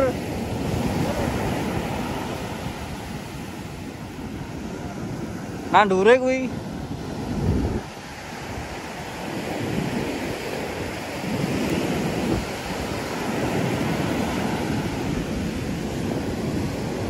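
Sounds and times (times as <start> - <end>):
ocean surf breaking on beach: 0.0 - 17.0
wind on microphone: 0.0 - 17.0.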